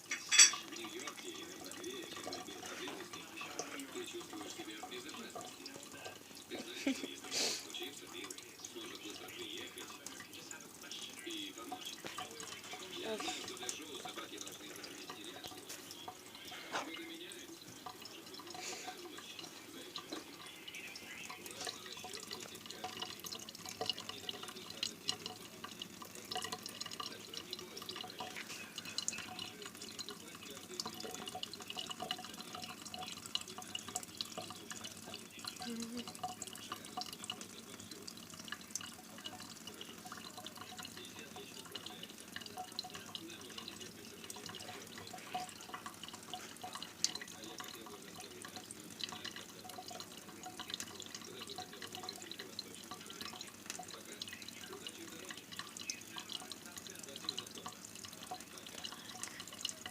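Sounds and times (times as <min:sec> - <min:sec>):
cat drinking water splashes: 0:00.0 - 0:59.9
water running from a tap: 0:00.0 - 0:59.9.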